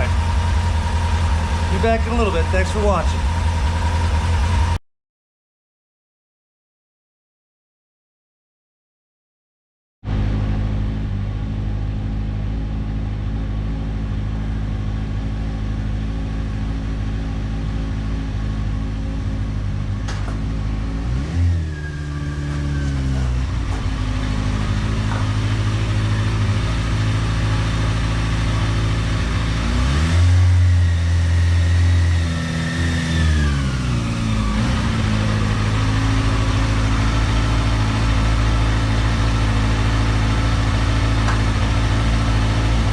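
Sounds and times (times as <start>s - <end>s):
motorcycle engine running: 0.0s - 4.8s, 10.1s - 42.9s.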